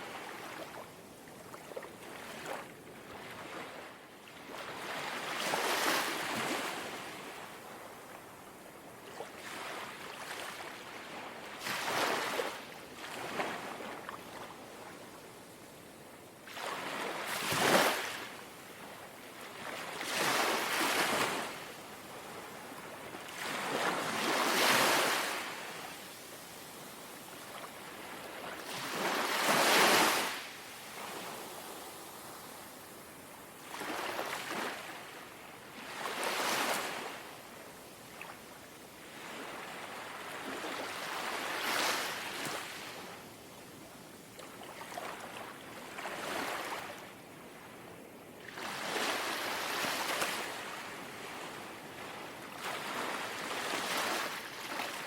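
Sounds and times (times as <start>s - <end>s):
gentle waves lapping on shore: 0.0s - 55.0s.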